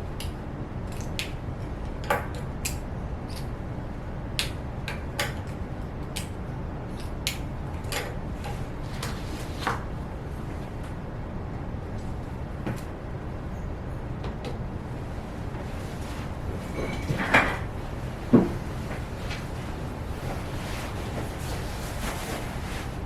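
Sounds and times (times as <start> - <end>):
low room rumble: 0.0 - 23.0.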